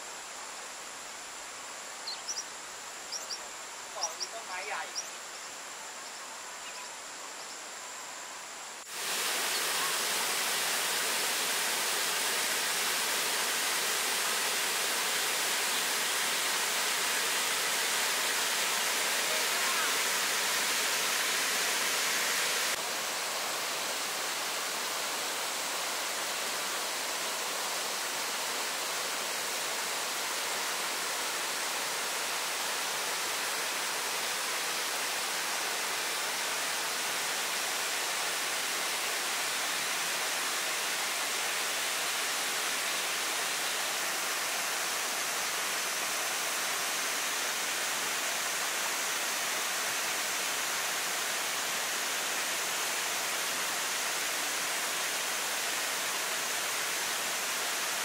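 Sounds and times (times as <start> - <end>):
quiet outdoor ambience: 0.0 - 58.0
waterfall rushing: 8.8 - 58.0.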